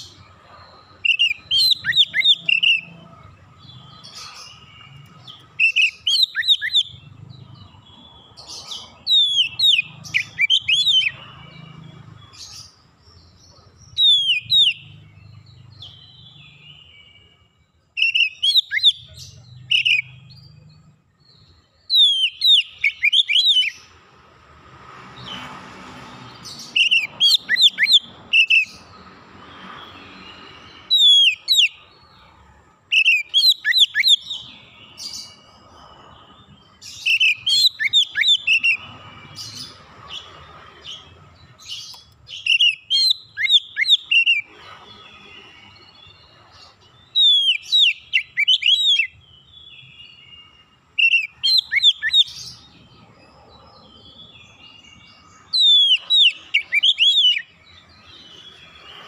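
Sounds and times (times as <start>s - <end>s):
songbird whistling song: 0.0s - 24.0s, 26.3s - 32.3s, 32.9s - 59.0s.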